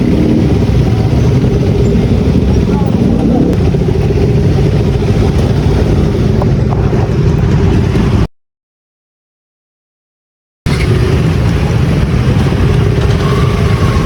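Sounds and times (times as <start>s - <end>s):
motorcycle engine running: 0.0s - 8.3s, 10.7s - 14.0s
wind noise: 0.0s - 8.3s, 10.7s - 14.0s.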